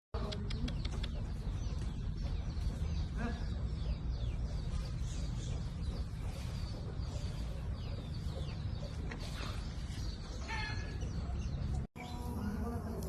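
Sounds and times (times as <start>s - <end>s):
chickens clucking: 0.2s - 11.9s.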